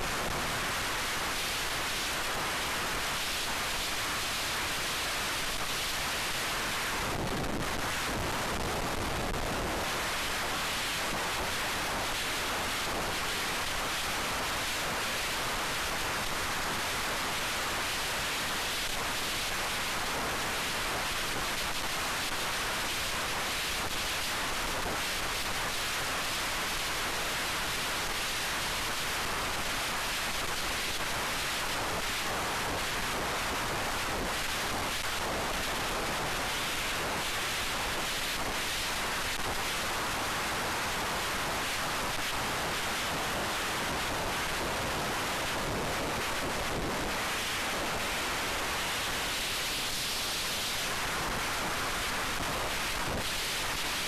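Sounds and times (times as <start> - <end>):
steady rushing hiss: 0.0 - 54.0.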